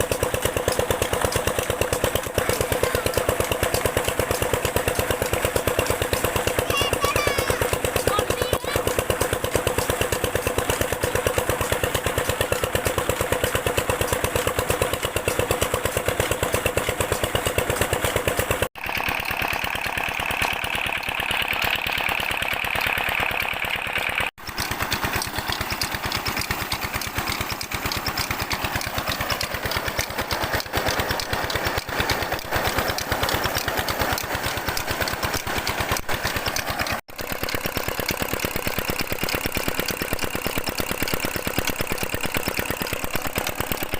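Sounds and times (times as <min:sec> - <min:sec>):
diesel pump engine running: 0:00.0 - 0:43.9.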